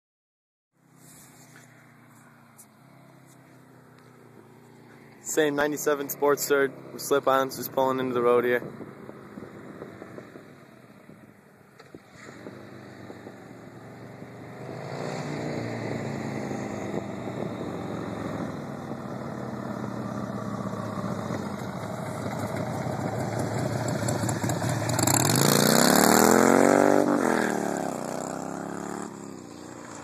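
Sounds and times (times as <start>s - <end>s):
motorcycle engine running: 1.1s - 11.6s, 15.5s - 30.0s.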